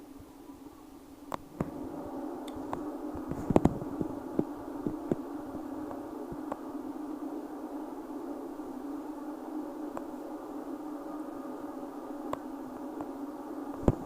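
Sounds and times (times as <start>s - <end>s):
train hum inside carriage: 1.4s - 14.0s.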